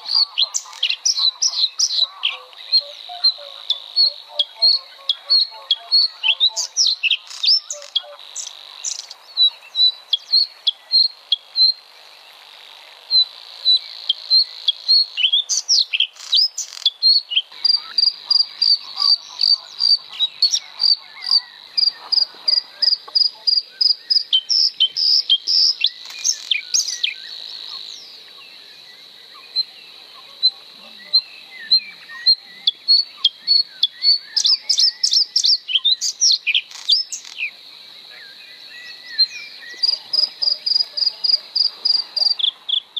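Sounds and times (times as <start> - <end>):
high bird chirps: 0.0 - 11.8, 13.2 - 28.2, 29.3 - 37.6
high insect drone: 0.0 - 42.9.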